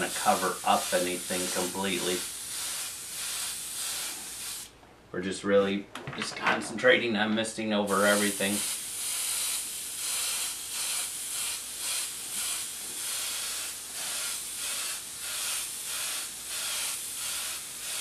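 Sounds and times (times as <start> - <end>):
airbrush hissing: 0.0 - 4.7, 7.9 - 18.0.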